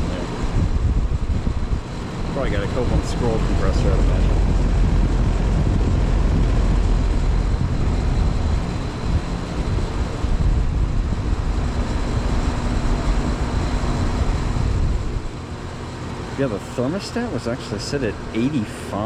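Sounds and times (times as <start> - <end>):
air conditioner unit humming: 0.0 - 19.0.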